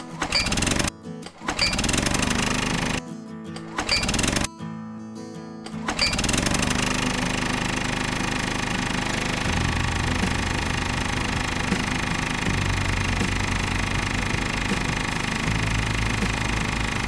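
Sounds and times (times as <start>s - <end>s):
small motor chugging: 0.2s - 0.9s, 1.5s - 3.0s, 3.7s - 4.5s, 5.9s - 17.0s.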